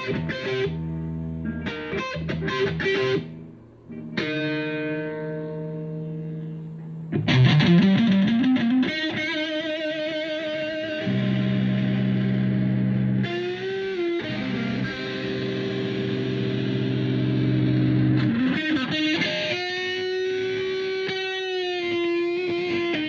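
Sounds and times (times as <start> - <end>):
electric guitar with effects: 0.0 - 23.0.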